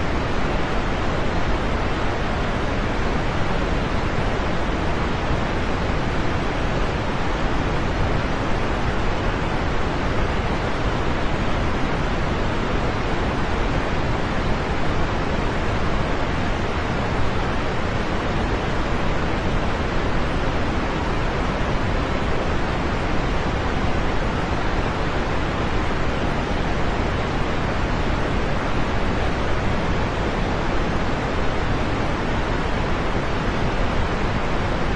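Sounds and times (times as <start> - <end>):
heavy rain hiss: 0.0 - 34.9.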